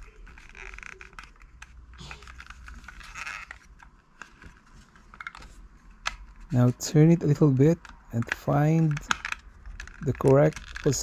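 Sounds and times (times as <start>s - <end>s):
small plastic clicks: 0.0s - 6.5s, 7.2s - 11.0s
plastic scraping: 0.0s - 11.0s.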